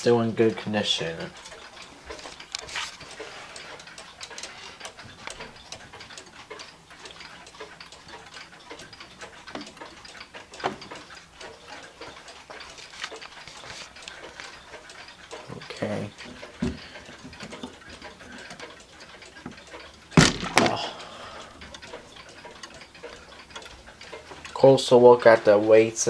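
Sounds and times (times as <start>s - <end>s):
grandfather clock ticking: 0.0s - 26.0s.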